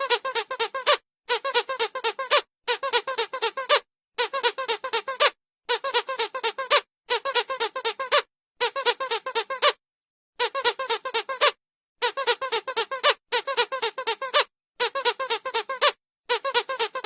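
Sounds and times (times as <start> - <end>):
squeaky dog toy squeaking: 0.0 - 9.8, 10.4 - 17.0.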